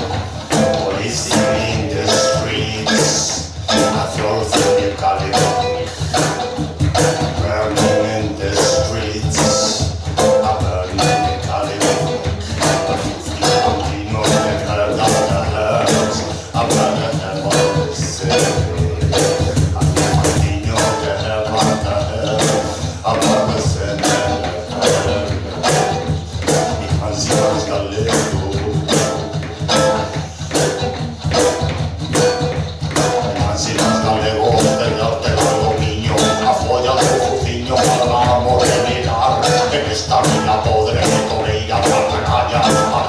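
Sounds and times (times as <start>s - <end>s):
bass: 0.0s - 43.0s
drums: 0.0s - 43.0s
live band playing: 0.0s - 43.0s.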